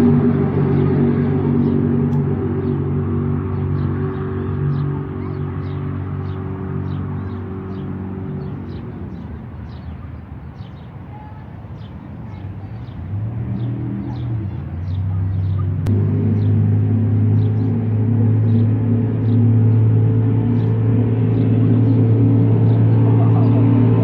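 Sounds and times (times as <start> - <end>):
jet boat engine drone: 0.0 - 24.0.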